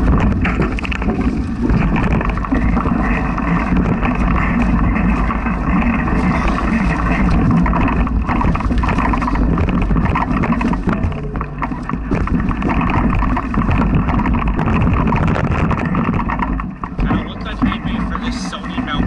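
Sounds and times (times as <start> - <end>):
bike knocks and rattles: 0.0 - 19.0
bike rolling on dirt trail: 0.0 - 19.0.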